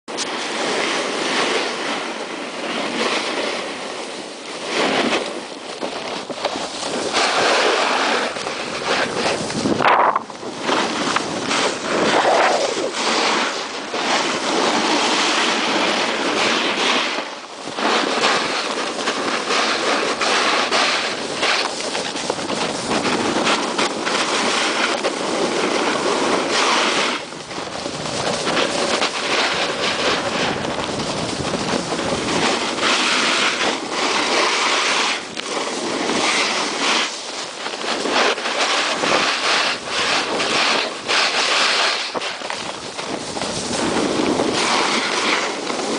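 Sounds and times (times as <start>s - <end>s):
snowboard scraping on snow: 0.1s - 45.9s.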